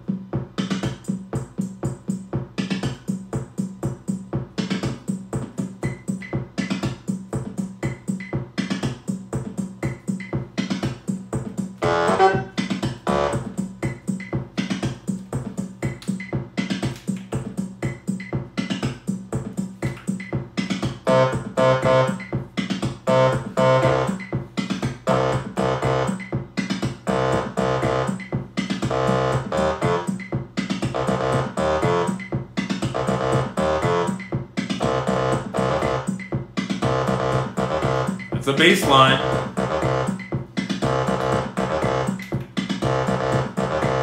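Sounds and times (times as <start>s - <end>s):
drum machine pattern: 0.0s - 44.0s
synthesizer notes: 4.4s - 16.0s, 19.6s - 44.0s.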